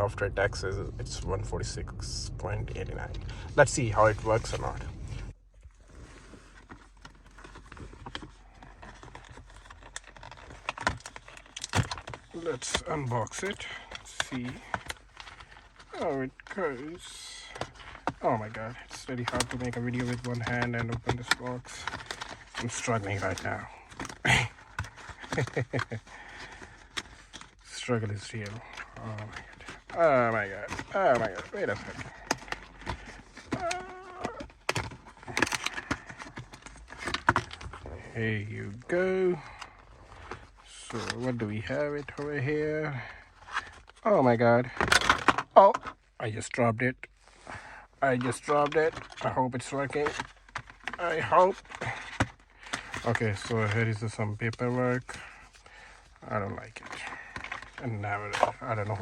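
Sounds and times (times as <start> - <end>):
packaging rustling and clicking: 5.9 - 42.3, 43.0 - 44.0, 44.7 - 46.0, 48.2 - 59.0.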